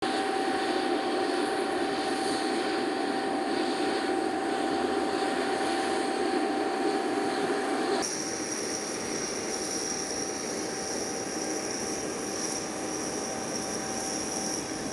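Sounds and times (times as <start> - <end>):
jet engines roaring with whine: 0.0 - 14.9.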